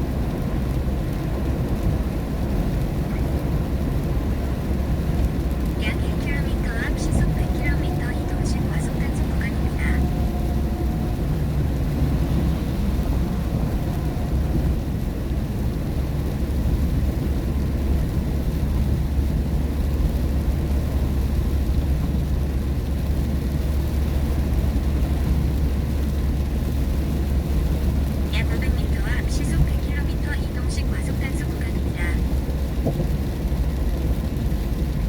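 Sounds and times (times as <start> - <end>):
car tyres on wet road: 0.0 - 35.0.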